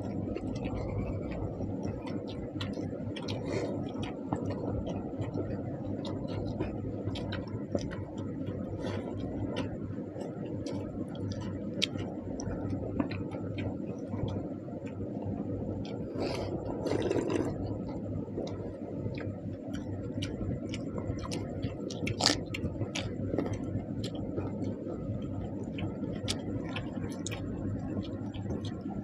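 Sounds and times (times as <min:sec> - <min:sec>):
steady low hum: 0:00.0 - 0:29.0
wet eating and chewing sounds: 0:00.0 - 0:29.0.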